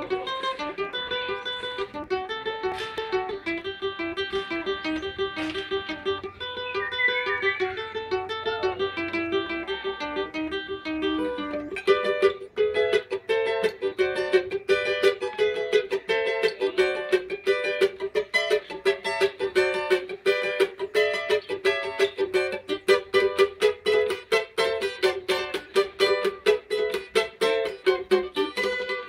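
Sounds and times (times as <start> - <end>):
small guitar picking and strumming: 0.0 - 29.0.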